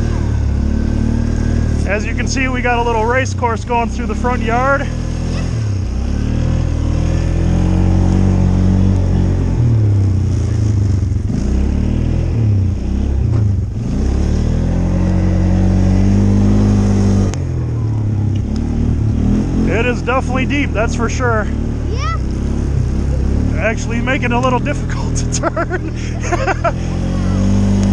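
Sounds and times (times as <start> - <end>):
small engine revving: 0.0 - 27.9.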